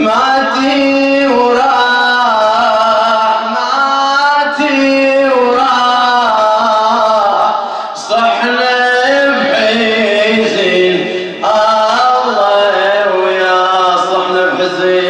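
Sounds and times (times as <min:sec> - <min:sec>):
man chanting a mournful elegy: 0:00.0 - 0:15.0.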